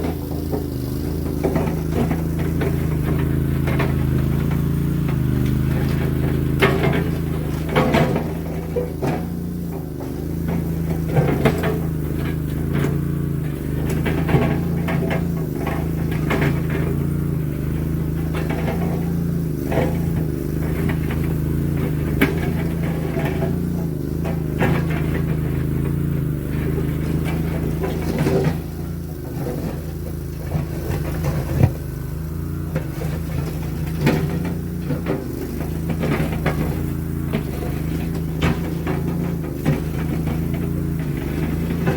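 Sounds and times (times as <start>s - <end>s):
skid steer engine running: 0.0s - 41.9s.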